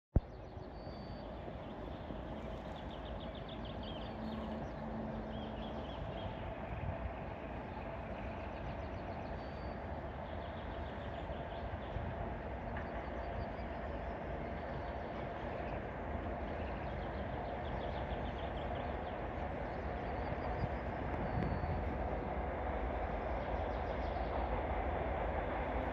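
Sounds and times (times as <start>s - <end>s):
birds chirping: 0.2s - 25.9s
diesel locomotive drone: 0.2s - 25.9s.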